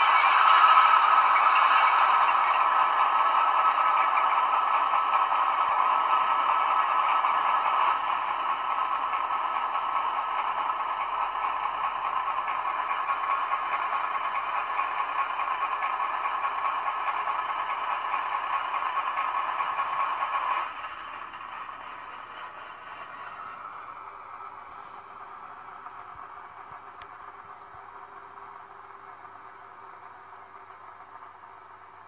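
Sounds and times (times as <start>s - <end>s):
diesel engines through small speaker: 0.0s - 32.0s.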